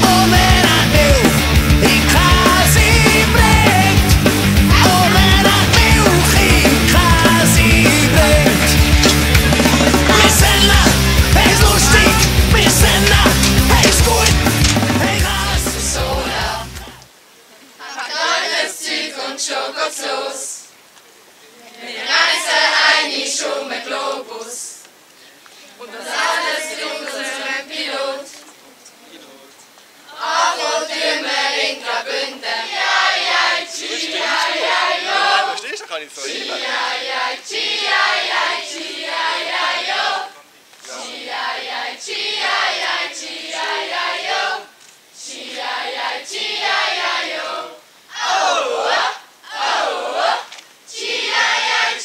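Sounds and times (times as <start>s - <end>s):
girls singing together: 0.0s - 17.1s, 17.7s - 20.8s, 21.6s - 24.9s, 25.6s - 28.4s, 30.0s - 52.0s.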